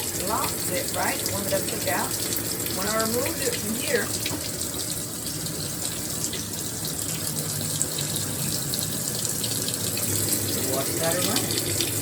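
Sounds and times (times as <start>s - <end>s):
water running into washing machine: 0.0s - 12.0s.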